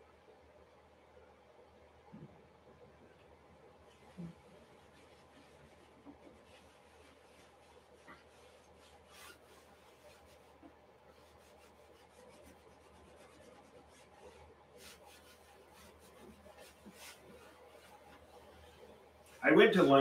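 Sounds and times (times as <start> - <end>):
hand rubbing on canvas: 3.8 - 20.0.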